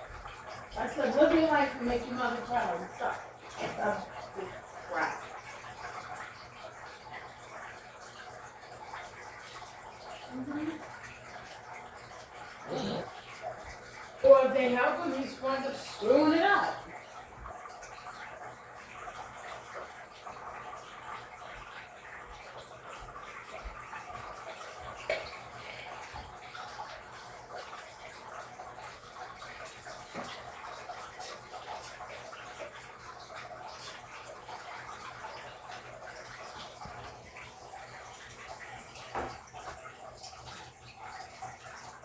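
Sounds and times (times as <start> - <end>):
running water: 0.0 - 42.0.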